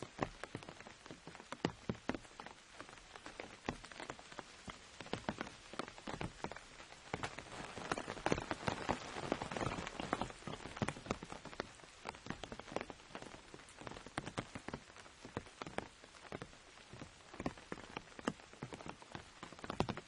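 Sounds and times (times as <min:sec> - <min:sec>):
rain on an umbrella: 0:00.0 - 0:20.0.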